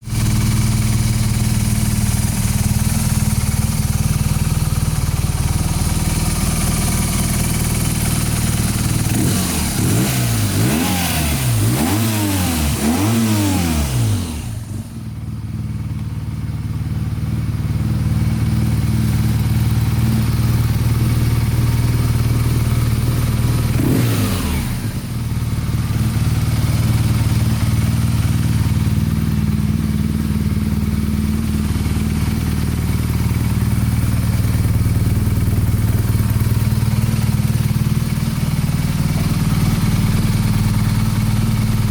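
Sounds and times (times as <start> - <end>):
motorcycle engine revving: 0.0 - 15.6, 16.7 - 41.9
motorcycle engine idling: 0.0 - 41.9.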